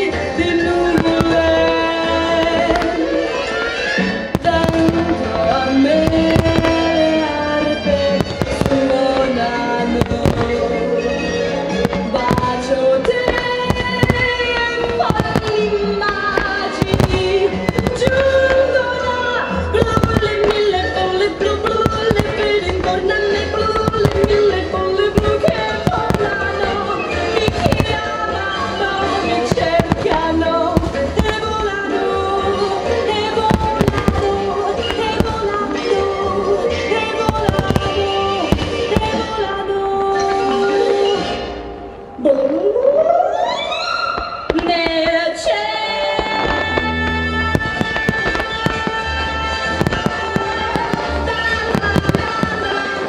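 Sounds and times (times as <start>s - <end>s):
fireworks bursting: 0.0s - 41.7s, 43.7s - 53.0s
loud melodic music: 0.0s - 53.0s.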